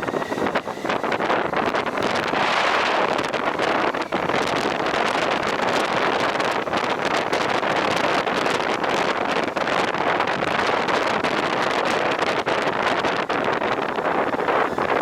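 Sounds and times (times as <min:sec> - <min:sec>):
wind gust crackles: 0:00.0 - 0:15.0
wind rushing over microphone: 0:00.0 - 0:15.0.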